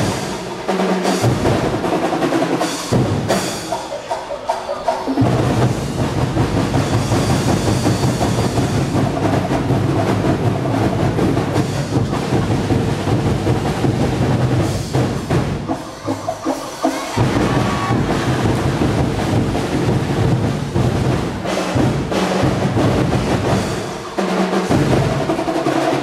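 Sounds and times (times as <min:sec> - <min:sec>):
big deep drums: 0:00.0 - 0:03.5, 0:05.1 - 0:26.0
drum ensemble playing: 0:00.0 - 0:26.0.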